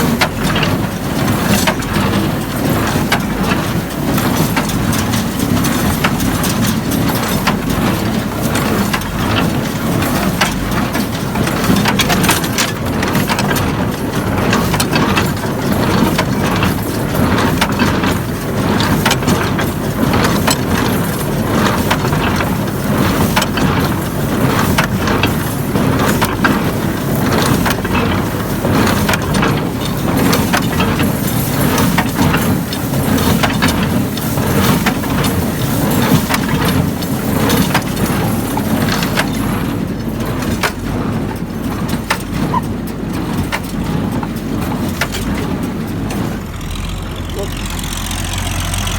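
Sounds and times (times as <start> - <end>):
tractor engine drone: 0.0 - 48.9.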